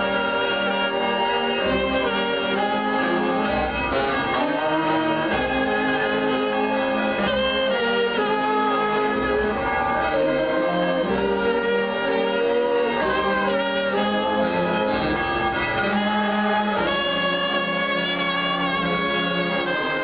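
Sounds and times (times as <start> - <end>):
brass band playing slow tune: 0.0 - 20.0.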